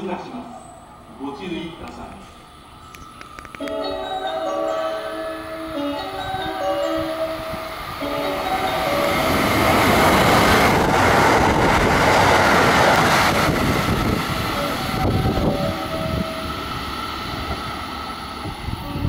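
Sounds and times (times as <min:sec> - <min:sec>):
diesel train engines: 0:00.0 - 0:19.0
wheels rushing on rail: 0:00.8 - 0:19.0.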